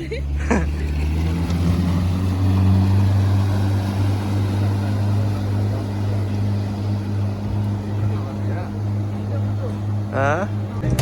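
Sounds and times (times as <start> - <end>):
speedboat engine droning: 0.0 - 11.0.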